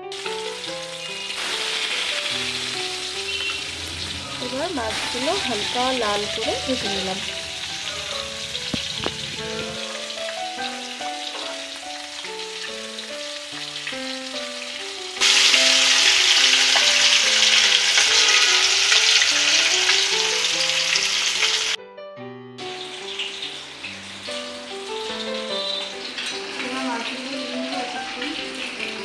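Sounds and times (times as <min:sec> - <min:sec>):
fish sizzling in hot oil: 0:00.0 - 0:21.8, 0:22.6 - 0:29.0
background music melody: 0:00.0 - 0:29.0.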